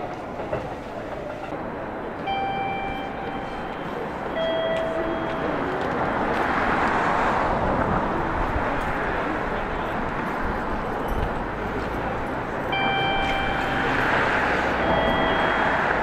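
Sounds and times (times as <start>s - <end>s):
busy railway station noise: 0.0s - 16.0s
city street noise: 0.0s - 16.0s.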